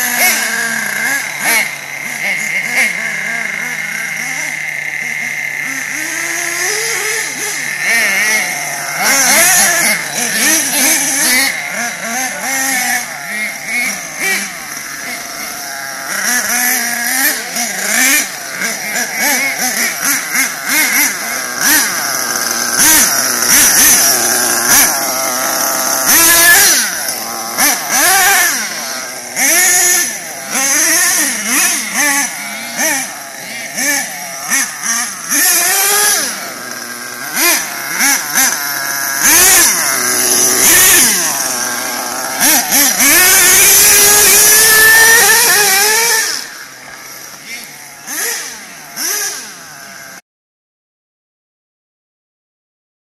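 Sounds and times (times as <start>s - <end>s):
nitro engine revving: 0.0s - 50.2s.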